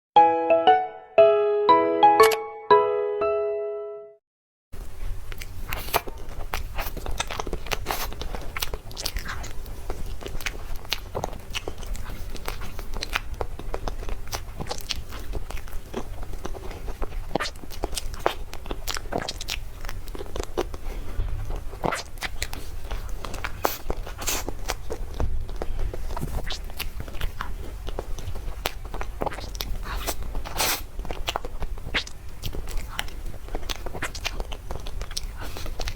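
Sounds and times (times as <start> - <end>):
person chewing cake: 5.1 - 35.9.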